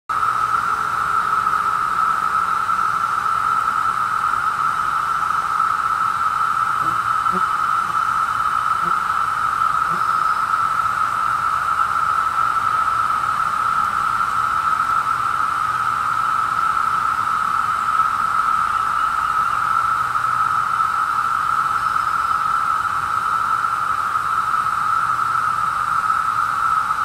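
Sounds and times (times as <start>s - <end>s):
cicadas droning: 0.1s - 27.0s.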